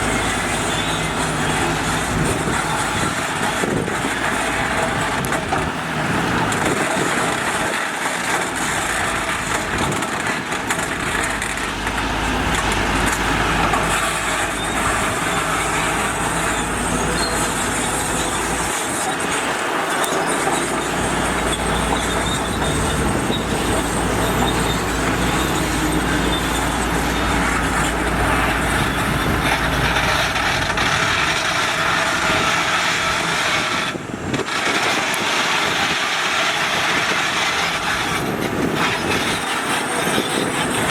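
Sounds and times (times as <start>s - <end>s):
diesel machinery engine rumble: 0.0s - 40.9s.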